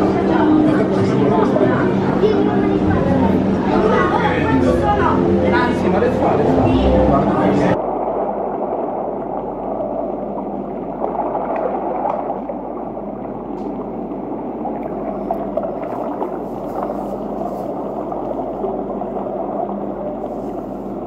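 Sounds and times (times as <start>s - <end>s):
faint gurgling: 0.0s - 21.0s
low hum: 0.0s - 21.0s
murky underwater water rush: 0.0s - 21.0s.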